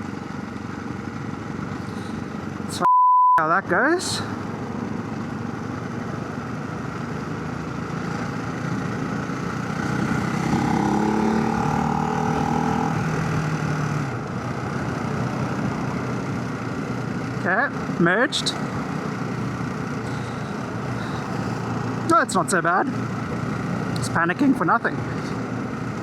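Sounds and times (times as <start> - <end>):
motorcycle engine hum: 0.0 - 2.8, 3.4 - 26.0
wind and road noise: 0.0 - 26.0.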